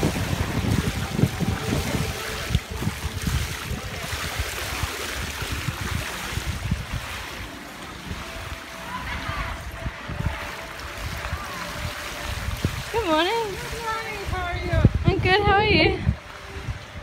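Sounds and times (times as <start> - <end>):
water rushing over cascades: 0.0 - 17.0
wind buffeting microphone: 0.0 - 17.0.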